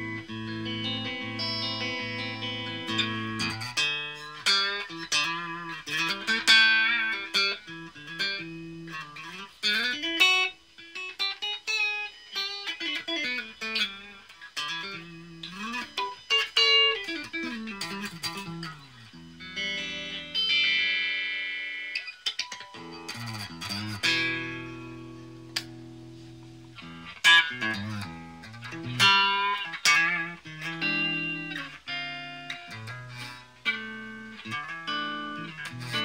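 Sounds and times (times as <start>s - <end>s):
electric guitar sliding notes: 0.0s - 36.0s.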